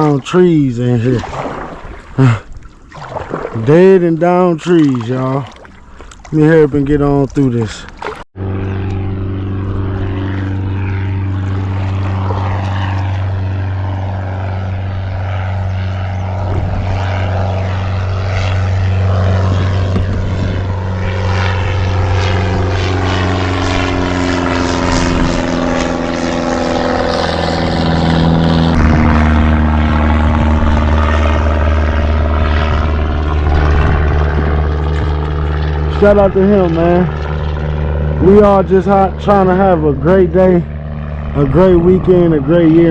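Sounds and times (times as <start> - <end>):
propeller aircraft engine drone: 0.0 - 42.9.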